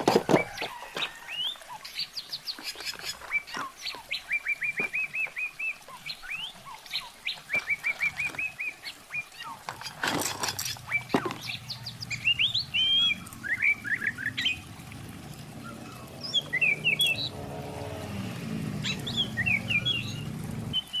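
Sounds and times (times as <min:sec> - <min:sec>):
small birds chirping: 0:00.3 - 0:17.4, 0:18.7 - 0:21.0.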